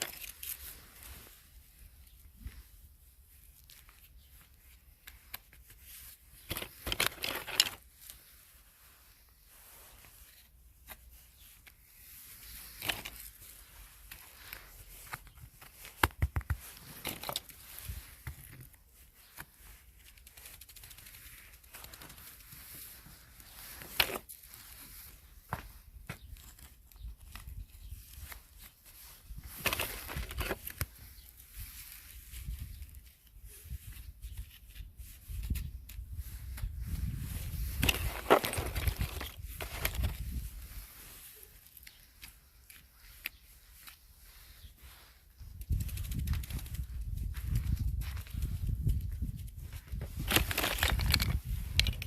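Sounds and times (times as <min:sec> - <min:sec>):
crinkling and tearing snaps: 0:00.0 - 0:01.4, 0:03.4 - 0:08.4, 0:10.0 - 0:36.7, 0:37.6 - 0:44.4, 0:45.4 - 0:52.0.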